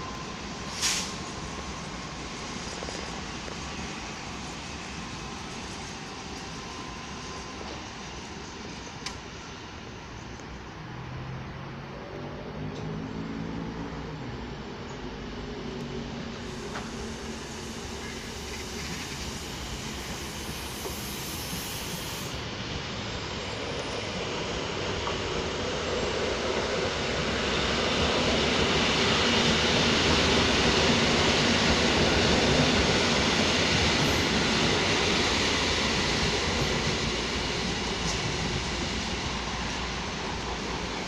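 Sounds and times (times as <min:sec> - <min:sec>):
train passing on tracks: 0:00.0 - 0:41.0.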